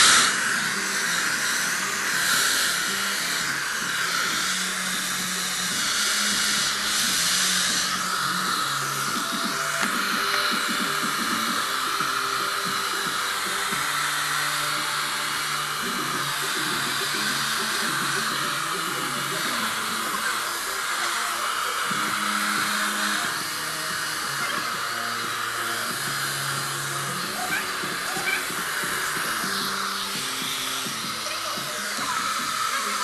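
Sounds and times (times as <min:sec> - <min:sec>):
hair dryer blowing: 0:00.0 - 0:33.0
music playing: 0:00.0 - 0:33.0.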